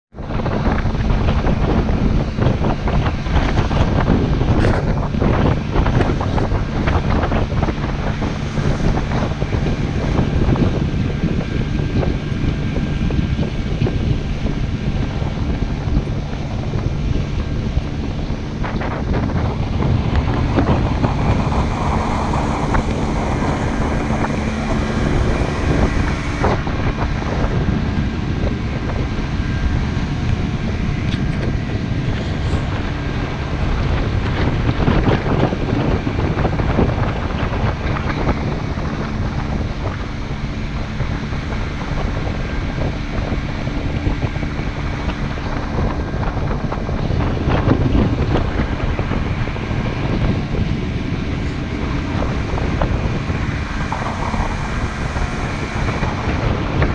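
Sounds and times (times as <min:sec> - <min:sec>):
motorboat motor droning: 0:00.0 - 0:56.9
water rushing along hull: 0:00.1 - 0:56.9
wind buffeting microphone: 0:00.1 - 0:56.9.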